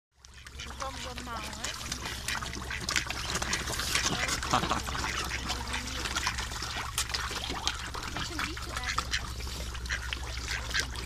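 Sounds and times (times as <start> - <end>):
fish gulping and splashing at surface: 0.2 - 11.0.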